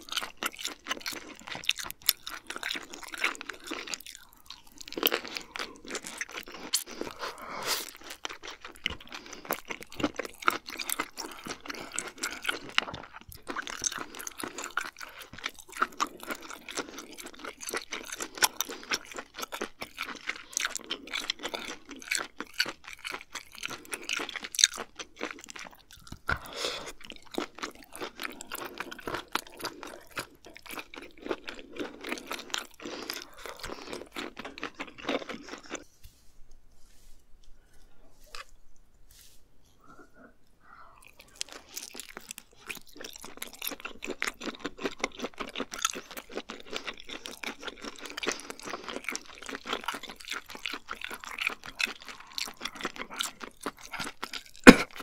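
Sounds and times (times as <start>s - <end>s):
chewing mouth sounds: 0.0s - 35.9s, 39.8s - 55.0s.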